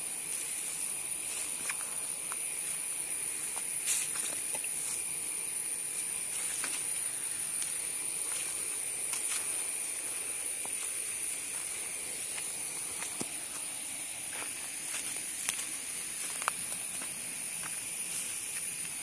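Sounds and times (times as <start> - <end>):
faint hiss: 0.0 - 19.0
insects trilling: 0.0 - 19.0.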